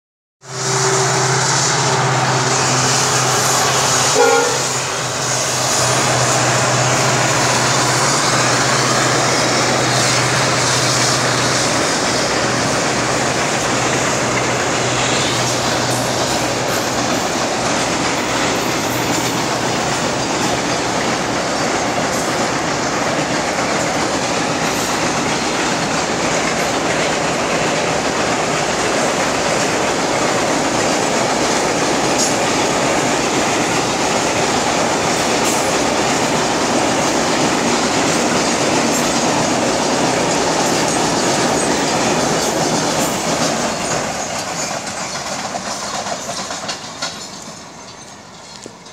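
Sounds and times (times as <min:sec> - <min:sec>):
train rumbling across bridge: 0:00.4 - 0:48.9
wheel clatter on rails: 0:07.7 - 0:48.9.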